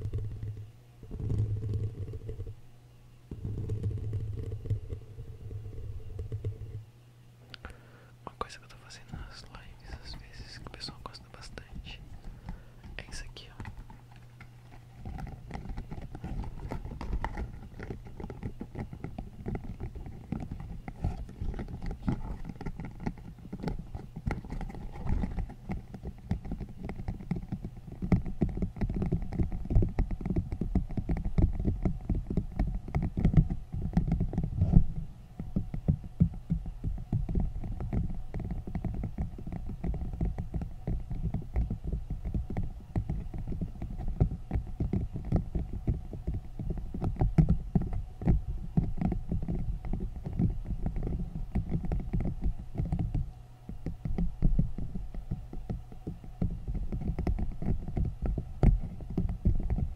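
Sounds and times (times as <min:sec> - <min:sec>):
rapid tapping: 0:00.0 - 0:02.6, 0:03.3 - 0:06.9, 0:08.5 - 0:59.9.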